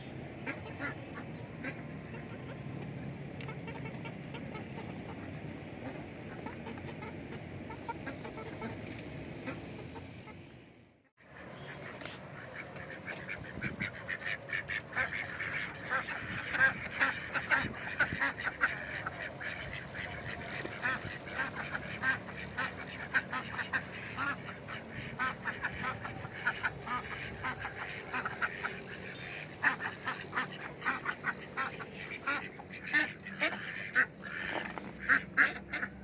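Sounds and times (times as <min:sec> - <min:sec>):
ducks quacking and honking: 0:00.0 - 0:10.5, 0:11.2 - 0:36.0.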